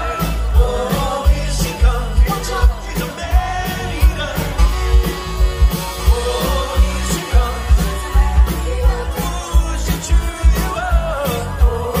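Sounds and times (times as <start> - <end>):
drum beat: 0.0 - 12.0
heavy bass: 0.0 - 12.0
man singing: 0.0 - 12.0
soft-rock band playing: 0.0 - 12.0.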